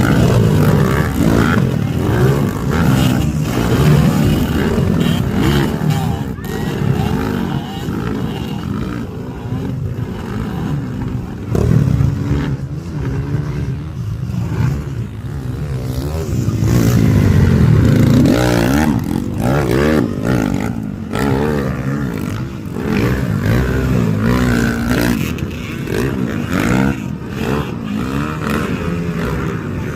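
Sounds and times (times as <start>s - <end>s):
motorcycle engines revving: 0.0s - 29.9s.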